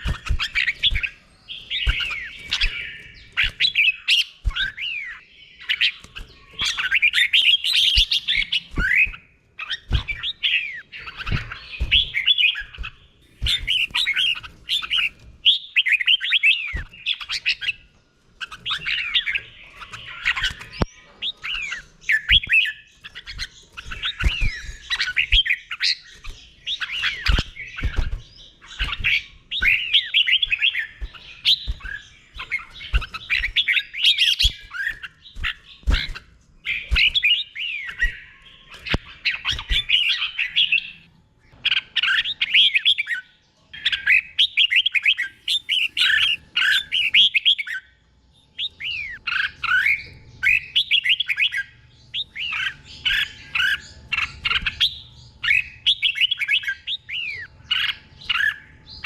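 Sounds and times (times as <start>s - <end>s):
bird singing whistled notes: 0.0s - 17.8s, 18.4s - 41.1s, 42.0s - 59.0s.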